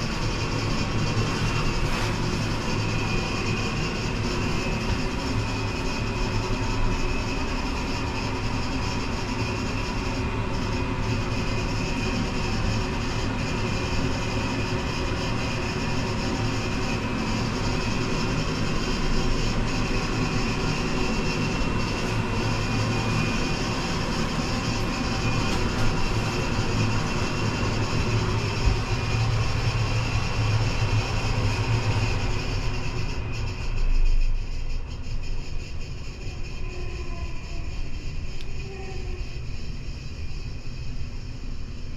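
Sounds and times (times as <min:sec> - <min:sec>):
ferris wheel mechanical hum: 0:00.0 - 0:41.9.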